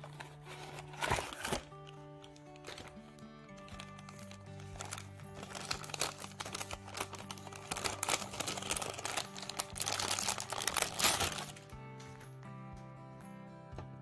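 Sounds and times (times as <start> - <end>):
packaging crinkling and rustling: 0.0 - 12.1
background music: 0.0 - 14.0.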